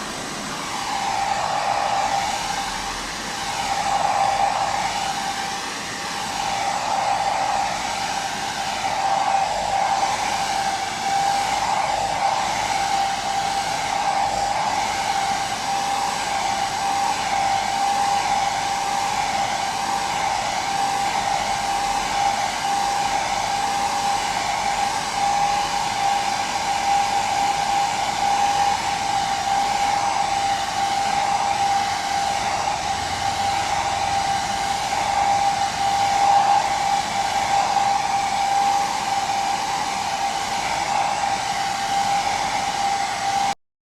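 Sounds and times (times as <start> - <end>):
hair dryer running: 0.0 - 43.6.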